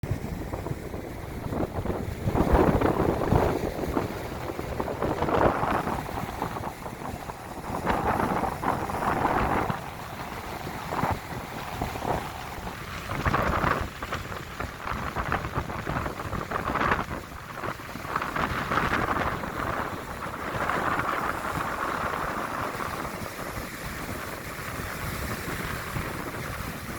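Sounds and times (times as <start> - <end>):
wind gusting across microphone: 0.0 - 26.9.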